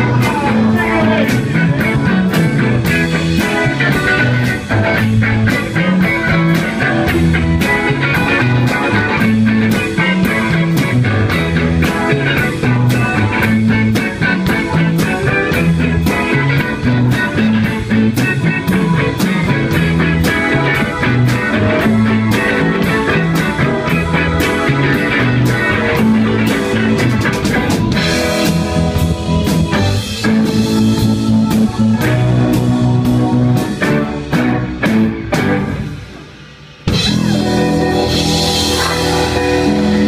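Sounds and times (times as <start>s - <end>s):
drum kit steady beat: 0.0s - 40.0s
electric guitars: 0.0s - 40.0s
walking bass guitar line: 0.0s - 40.0s.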